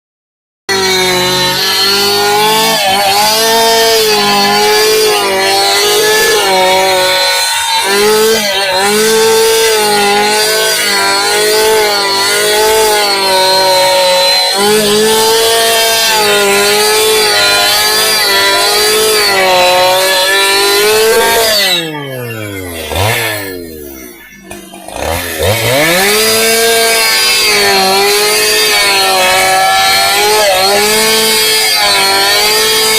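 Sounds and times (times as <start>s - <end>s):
chainsaw cutting timber: 0.7s - 32.9s.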